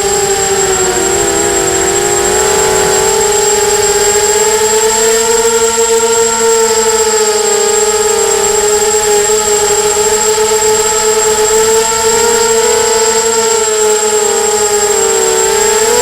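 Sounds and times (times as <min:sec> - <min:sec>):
drone motors whining: 0:00.0 - 0:16.0
thin high whine: 0:00.0 - 0:16.0.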